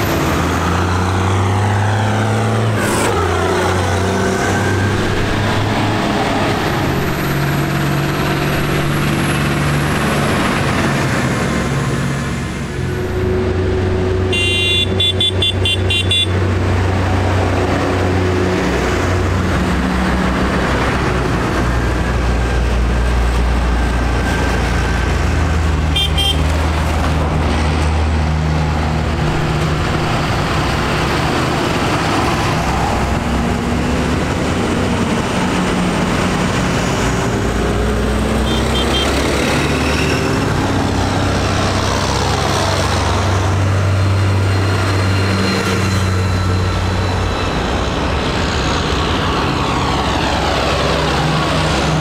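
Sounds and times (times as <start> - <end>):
tractor diesel engines passing: 0.0 - 52.0.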